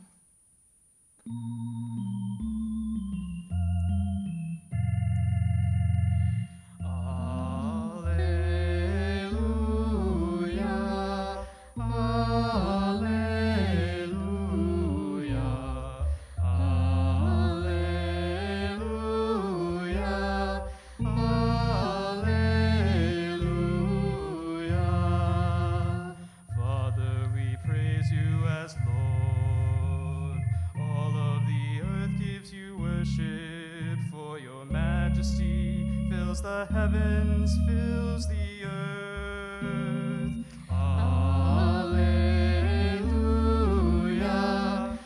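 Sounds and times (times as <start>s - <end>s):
organ keyboard sustained chords: 1.2s - 45.0s
person singing slow melody: 6.2s - 45.0s.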